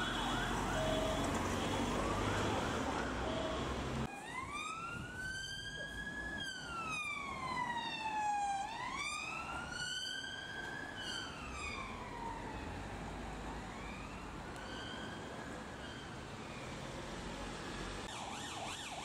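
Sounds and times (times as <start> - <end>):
police siren wailing: 0.0 - 16.1, 18.0 - 19.0
traffic rumble: 0.0 - 18.1.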